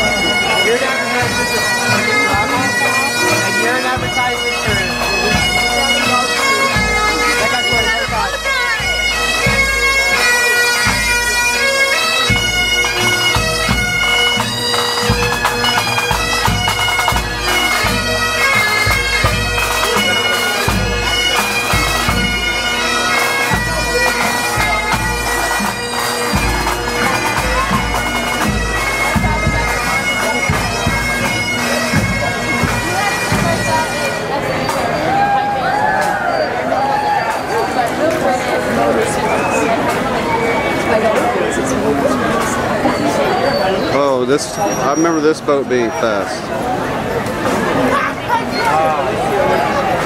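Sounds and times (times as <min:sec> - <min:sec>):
bagpipes playing: 0:00.0 - 0:47.1.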